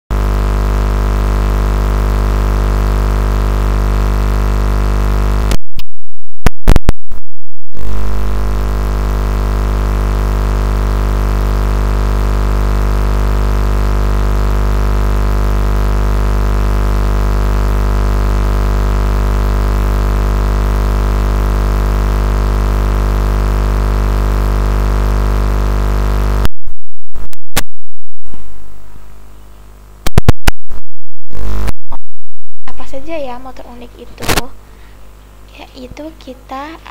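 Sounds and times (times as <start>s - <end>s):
electronic drone with deep hum: 0.1s - 5.6s, 7.8s - 26.5s, 28.1s - 35.9s
loud distorted glitches: 0.1s - 5.6s, 6.5s - 26.5s, 27.2s - 33.0s.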